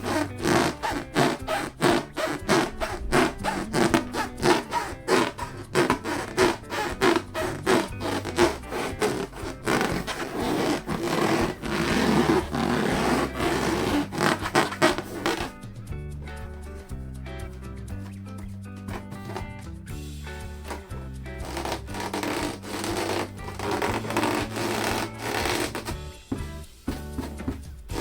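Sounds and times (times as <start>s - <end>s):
hands rubbing balloon: 0.0s - 19.8s, 20.4s - 28.0s
background music: 0.0s - 28.0s.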